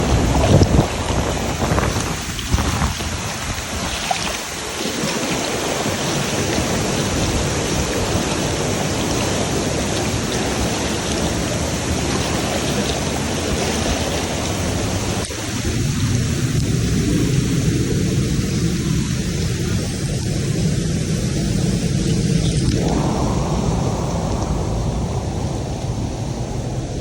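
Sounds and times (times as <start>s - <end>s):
waterfall rushing: 0.0s - 17.6s, 18.4s - 27.0s.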